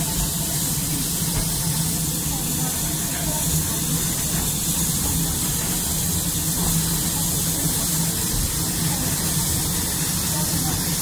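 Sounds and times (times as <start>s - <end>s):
locomotive running rumble: 0.0s - 11.0s
steam hissing: 0.0s - 11.0s.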